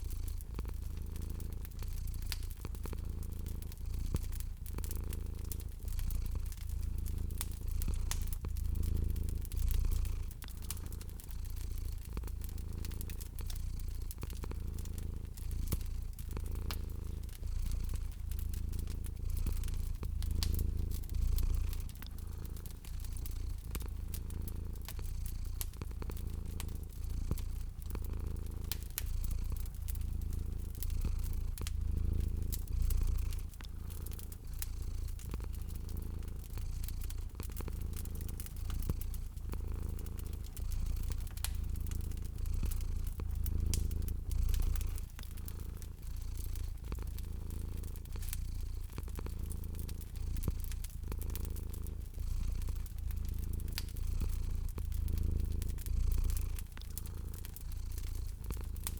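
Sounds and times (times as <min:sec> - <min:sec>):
cat purring: 0:00.0 - 0:58.9
fire crackling: 0:00.0 - 0:58.9.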